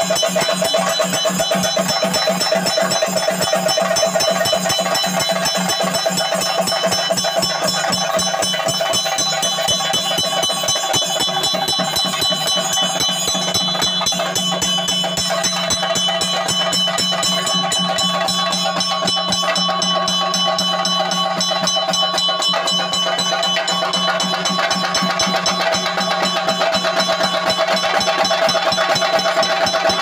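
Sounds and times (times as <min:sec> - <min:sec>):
drums beaten fast: 0:00.0 - 0:30.0
hand cymbals clanging: 0:00.0 - 0:30.0.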